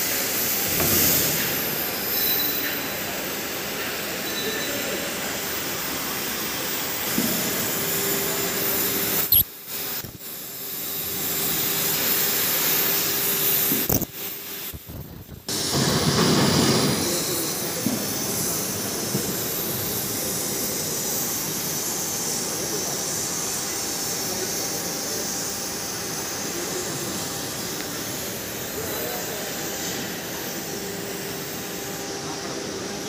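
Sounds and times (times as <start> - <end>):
cutting torch hissing: 0.0 - 33.0.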